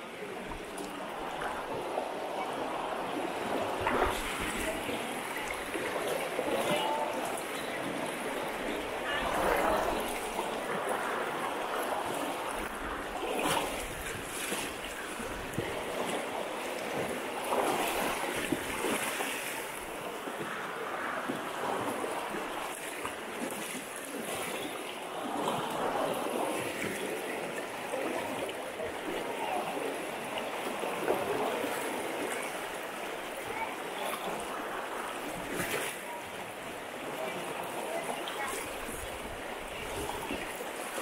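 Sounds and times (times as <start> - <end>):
people wading through water: 0.0 - 41.0
river current rushing over rocks: 0.0 - 41.0.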